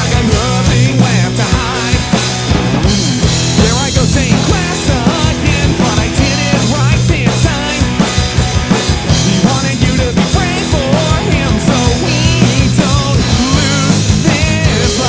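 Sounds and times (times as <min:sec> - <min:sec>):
drum kit hits: 0:00.0 - 0:15.0
punk rock band playing live: 0:00.0 - 0:15.0.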